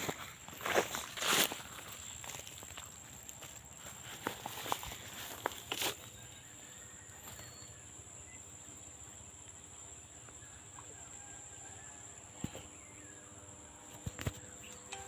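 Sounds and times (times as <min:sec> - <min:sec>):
high-pitched insect trill: 0:00.0 - 0:12.2.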